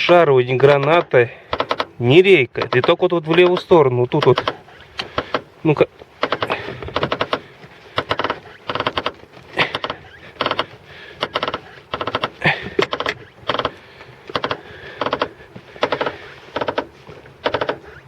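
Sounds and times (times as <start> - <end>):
suspension squeaking: 0.0 - 18.0.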